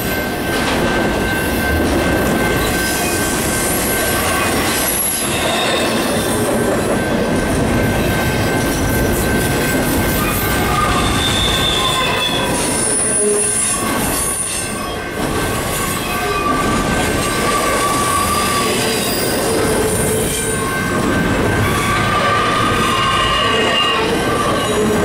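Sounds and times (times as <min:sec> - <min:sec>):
freight train rumbling past: 0:00.0 - 0:25.0
train wheel squeal: 0:00.0 - 0:25.0.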